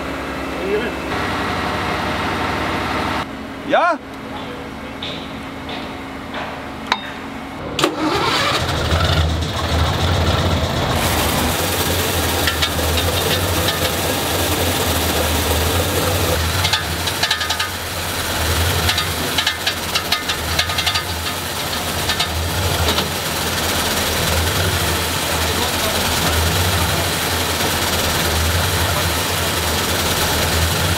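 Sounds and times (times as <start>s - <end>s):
truck diesel engine running: 0.0s - 3.6s, 7.6s - 30.9s.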